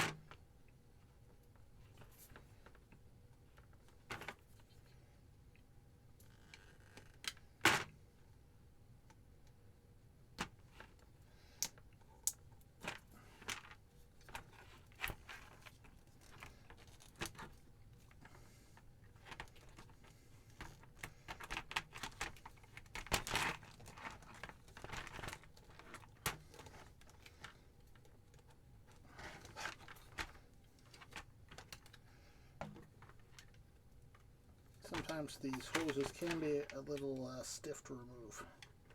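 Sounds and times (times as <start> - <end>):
plastic parts clicking and crinkling: 1.3 - 5.0, 10.4 - 37.4, 38.4 - 38.9.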